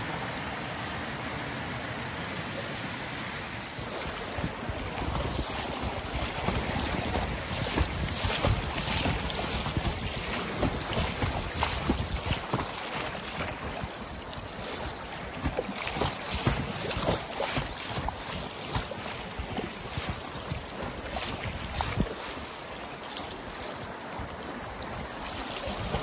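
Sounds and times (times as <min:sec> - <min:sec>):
creek water rushing: 0:00.0 - 0:26.0
water splashing against kayak: 0:00.0 - 0:26.0
wind buffeting microphone: 0:03.8 - 0:22.6, 0:23.4 - 0:26.0.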